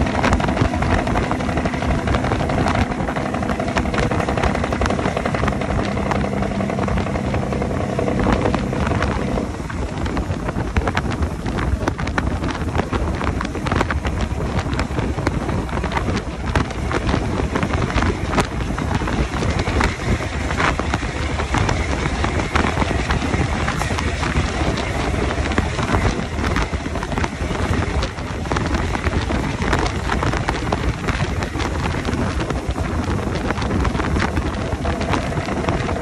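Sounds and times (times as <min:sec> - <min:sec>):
diesel truck engine: 0:00.0 - 0:36.0
road noise: 0:00.0 - 0:36.0
wind buffeting microphone: 0:00.0 - 0:36.0.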